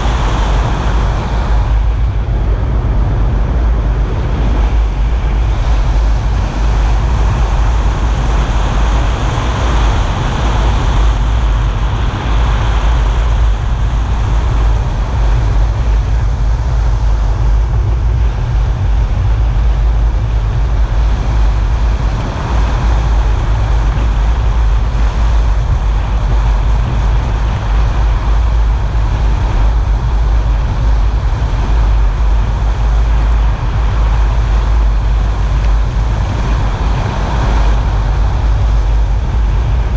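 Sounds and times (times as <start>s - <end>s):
car tyres on wet road: 0.0s - 39.9s.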